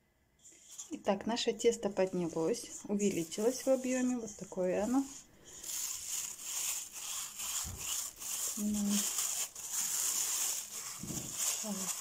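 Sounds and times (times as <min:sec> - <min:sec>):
plastic bag crinkling: 0:02.0 - 0:12.0.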